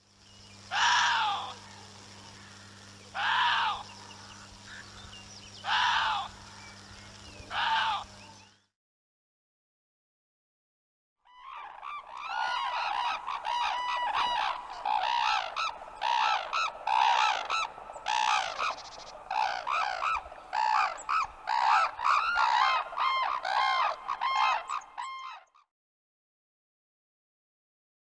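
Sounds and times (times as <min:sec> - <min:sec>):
cranes calling: 0:00.5 - 0:08.7, 0:11.3 - 0:25.6.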